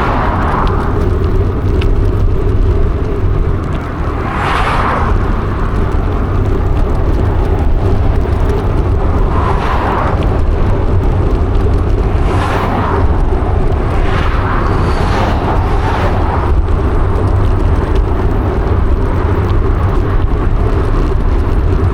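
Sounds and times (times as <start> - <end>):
vehicles passing: 0.0 - 21.9
wind and riding noise: 0.0 - 21.9.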